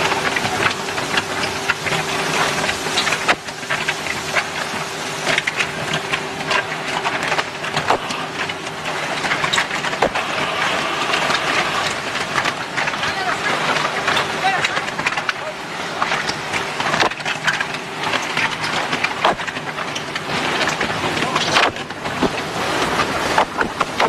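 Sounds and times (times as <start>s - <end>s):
concrete mixer hum: 0.0s - 24.0s
mixer clattering and knocking: 0.0s - 24.0s.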